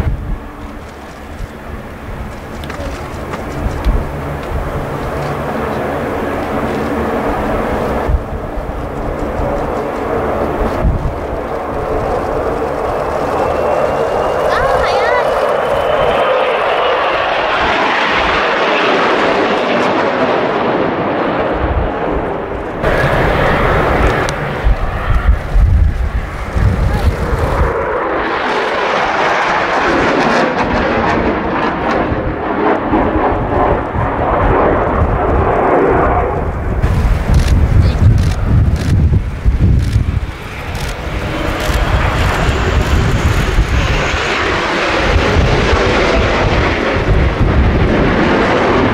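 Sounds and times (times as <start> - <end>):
jet roar passing low: 0.0 - 48.9.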